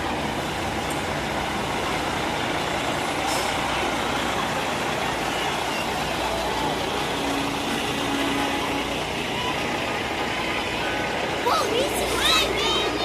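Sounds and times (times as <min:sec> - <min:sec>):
rumble of engines and tyres: 0:00.0 - 0:13.0
trucks passing: 0:00.0 - 0:13.0.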